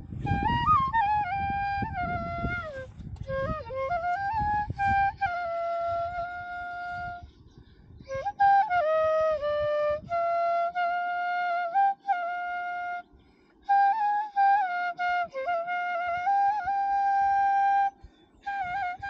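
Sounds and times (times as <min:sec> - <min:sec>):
bamboo flute melody: 0:00.0 - 0:07.3, 0:08.0 - 0:19.0.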